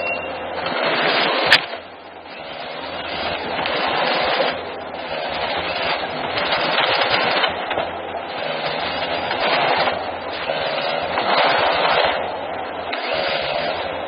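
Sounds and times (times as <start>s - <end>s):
forestry machinery working: 0.0s - 14.0s
low engine hum: 0.0s - 14.0s.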